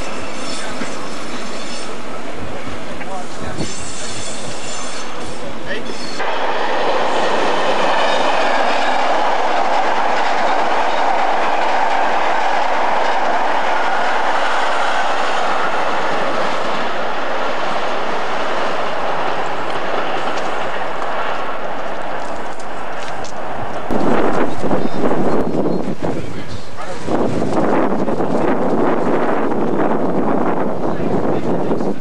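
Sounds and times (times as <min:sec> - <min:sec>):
train passing at speed: 0:00.0 - 0:32.0.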